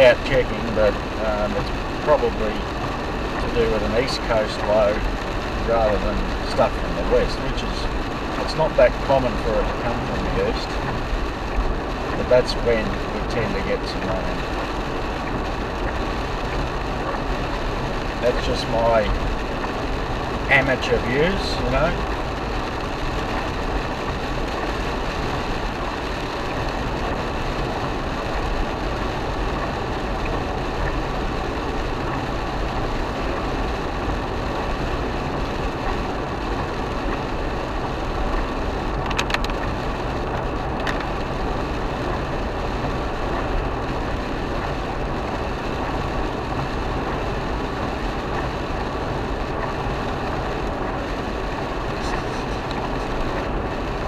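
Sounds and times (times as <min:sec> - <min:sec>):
car engine hum: 0:00.0 - 0:54.0
tyres on wet road: 0:00.0 - 0:54.0.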